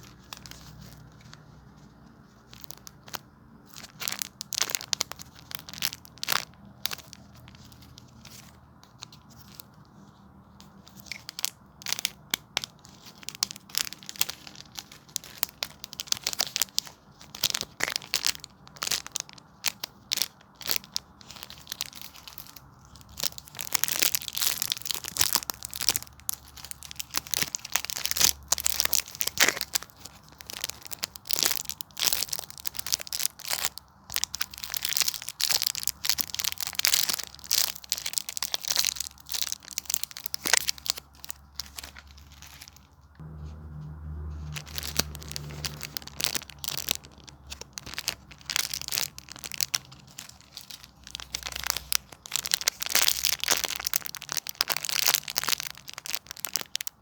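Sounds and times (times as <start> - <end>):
squishy toys crinkling: 0.0 - 43.6, 44.2 - 57.0.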